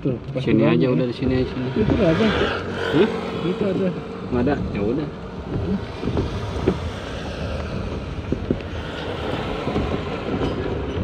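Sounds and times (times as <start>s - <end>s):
vehicle engine and road rumble: 0.0s - 11.0s
wind noise: 0.0s - 11.0s.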